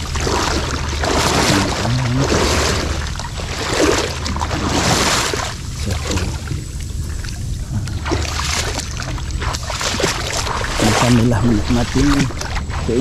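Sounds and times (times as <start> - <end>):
boat engine drone: 0.0 - 13.0
water rushing: 0.0 - 13.0.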